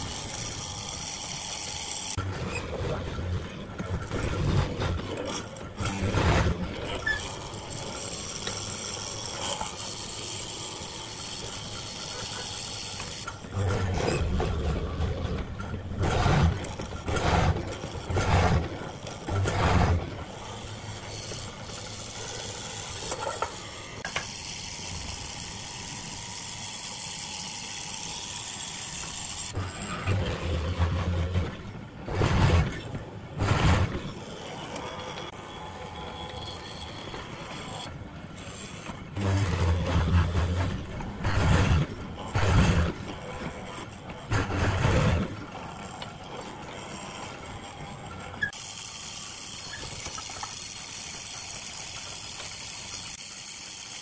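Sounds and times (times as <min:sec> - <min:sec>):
chisel bit cutting wood: 0:00.0 - 0:02.8, 0:04.0 - 0:14.6, 0:16.0 - 0:54.0
mortiser motor hum: 0:00.0 - 0:54.0.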